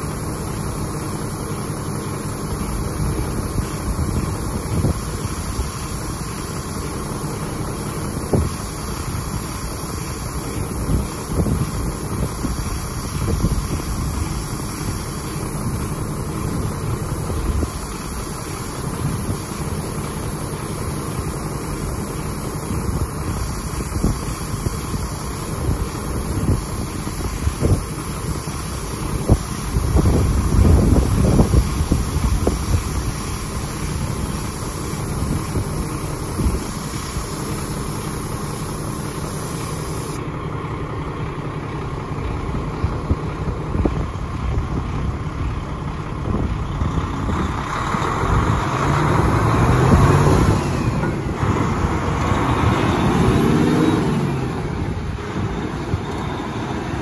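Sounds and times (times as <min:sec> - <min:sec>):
diesel truck engine idling and revving: 0:00.0 - 0:57.0.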